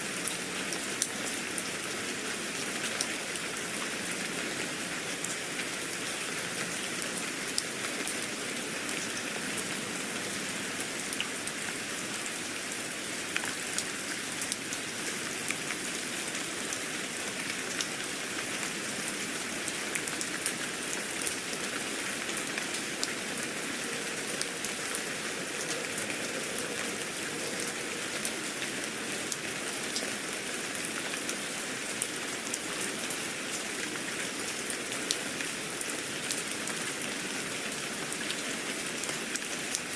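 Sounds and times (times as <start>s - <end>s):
rain falling: 0.0s - 39.9s
raindrops pattering: 0.1s - 39.9s.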